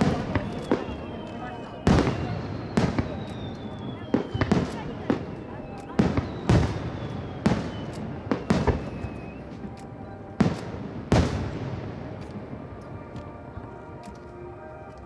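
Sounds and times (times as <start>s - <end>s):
fireworks booming with echo: 0.0s - 14.2s.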